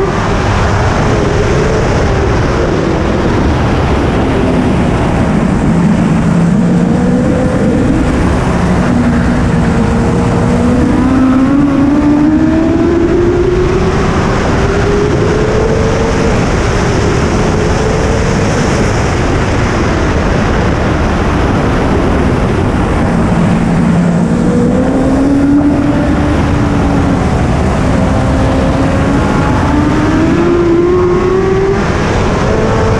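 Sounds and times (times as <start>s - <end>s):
motorcycle engine revving: 0.0s - 19.4s, 21.4s - 32.9s
wind rushing: 0.0s - 32.9s.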